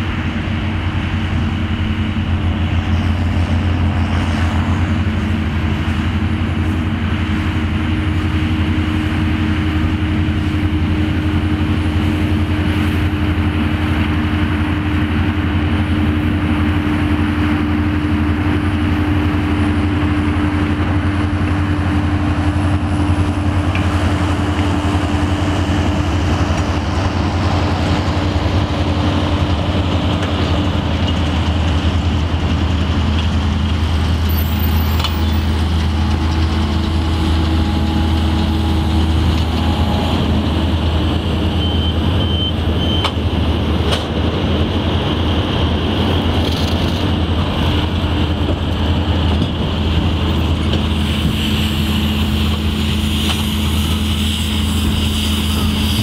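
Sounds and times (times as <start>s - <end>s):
tractor diesel engines under load: 0.0s - 56.0s.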